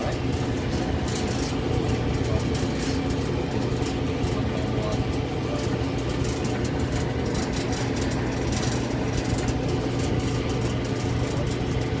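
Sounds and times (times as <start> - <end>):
clothes dryer running: 0.0 - 12.0.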